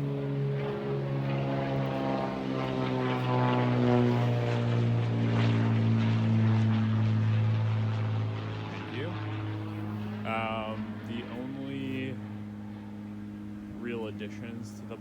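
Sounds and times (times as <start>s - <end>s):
propeller aircraft droning: 0.0s - 15.0s.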